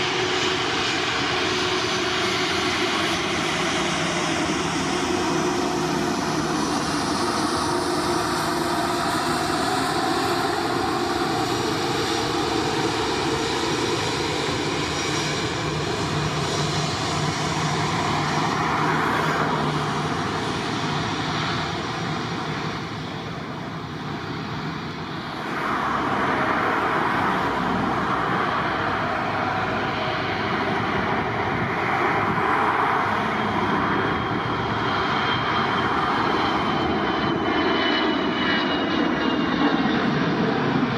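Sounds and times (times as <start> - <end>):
aircraft engines running: 0.0 - 40.9.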